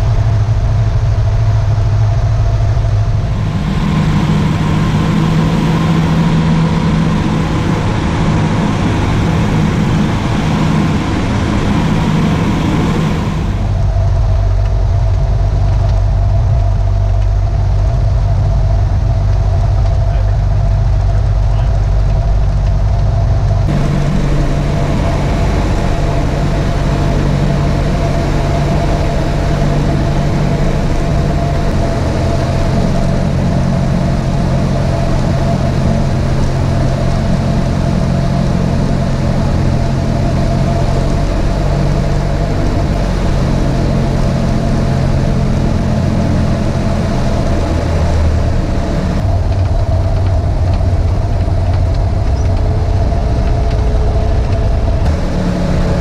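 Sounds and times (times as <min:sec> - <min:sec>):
propeller plane engine drone: 0:00.0 - 0:56.0.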